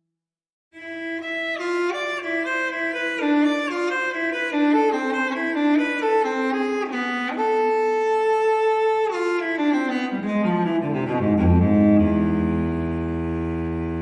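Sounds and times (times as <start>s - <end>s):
solo cello melody: 0.8s - 14.0s.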